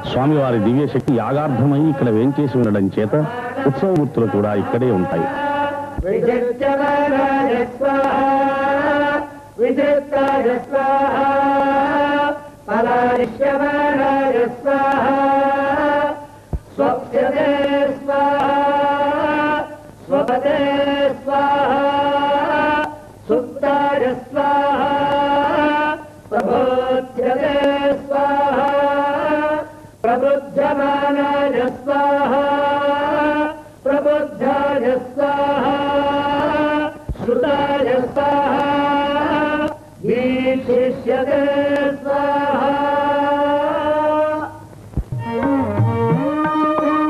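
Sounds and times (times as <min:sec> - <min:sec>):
people chanting mantras: 0:00.0 - 0:47.0.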